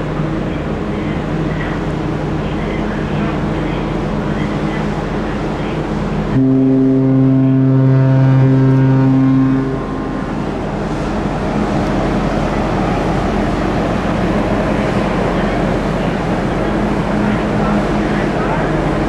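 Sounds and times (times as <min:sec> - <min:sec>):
ship engines rumbling: 0:00.0 - 0:19.0
ship horn low blast: 0:01.2 - 0:19.0.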